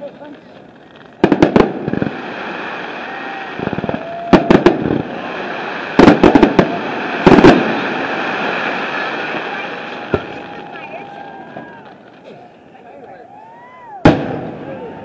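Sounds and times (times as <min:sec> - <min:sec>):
fireworks bursting with sharp bangs: 0:00.0 - 0:15.0
fireworks crackle: 0:00.0 - 0:15.0.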